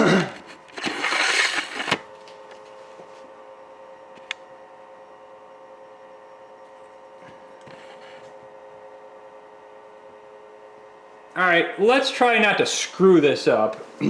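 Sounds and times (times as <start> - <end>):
electric motor hum: 0.0 - 14.0.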